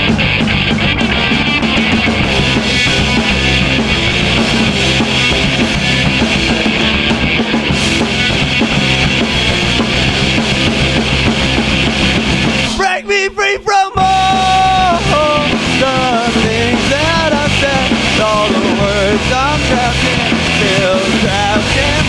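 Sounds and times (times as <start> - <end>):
drum kit: 0.0 - 22.0
punk rock band playing: 0.0 - 22.0.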